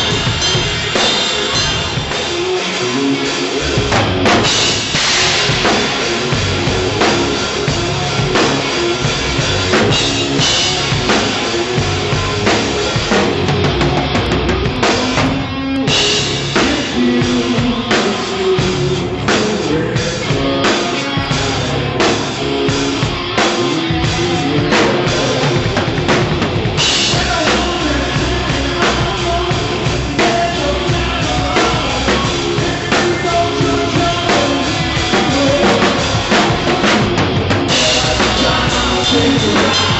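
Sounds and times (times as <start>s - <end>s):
band instruments: 0.0s - 39.9s
rock drum kit playing: 0.0s - 39.9s.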